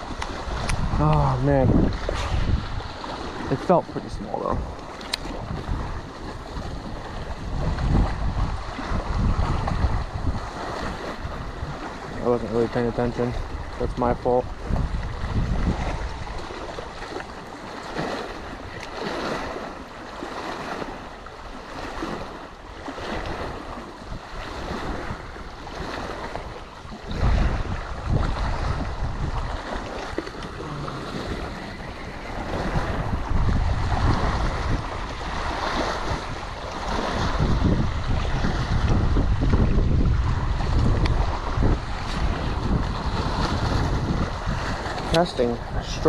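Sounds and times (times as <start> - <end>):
small waves lapping shore: 0.0 - 46.0
wind buffeting microphone: 0.0 - 46.0.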